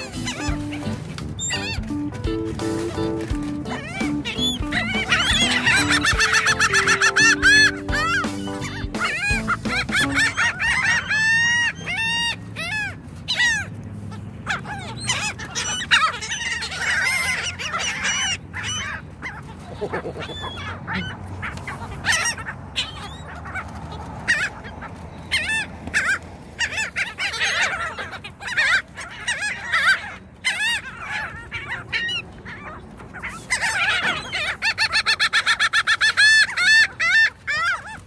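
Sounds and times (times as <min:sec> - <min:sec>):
gull laughing call: 0:00.0 - 0:13.6, 0:14.2 - 0:23.6, 0:25.4 - 0:38.0
gulls calling: 0:00.0 - 0:38.0.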